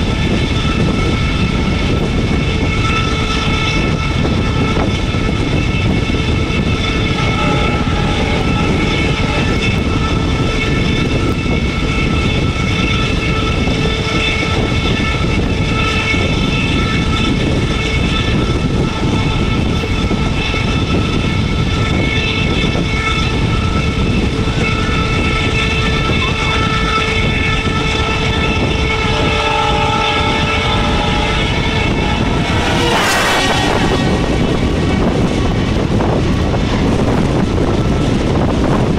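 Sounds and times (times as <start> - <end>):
diesel locomotive engine rumbling: 0.0 - 38.9
train rolling noise: 0.0 - 38.9.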